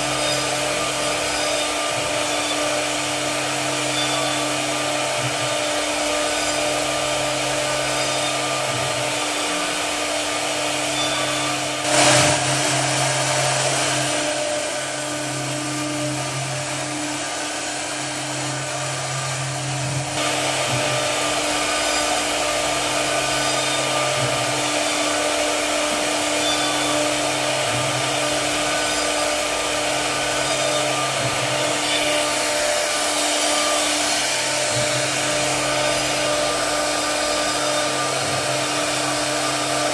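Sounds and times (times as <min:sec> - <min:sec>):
wood router whine and rush: 0:00.0 - 0:39.9.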